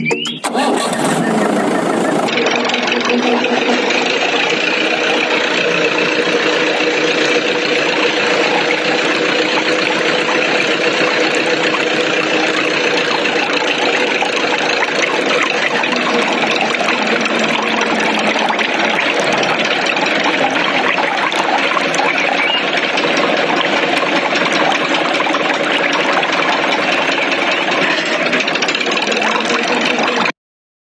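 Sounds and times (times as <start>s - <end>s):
small pump motor whining: 0.0s - 30.4s.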